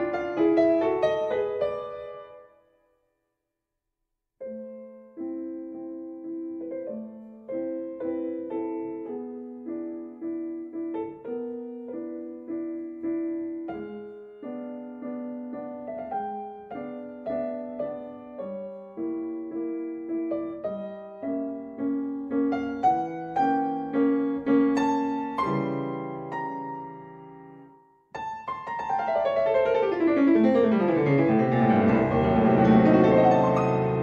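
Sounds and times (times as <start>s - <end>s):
slow gentle piano music: 0.0s - 2.9s, 4.4s - 34.0s.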